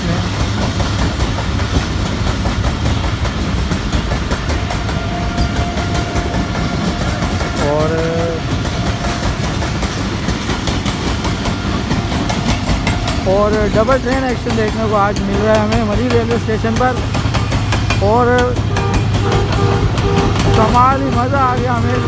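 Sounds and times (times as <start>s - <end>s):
train rumbling: 0.0s - 22.0s
wheels clattering over rail joints: 0.0s - 22.0s.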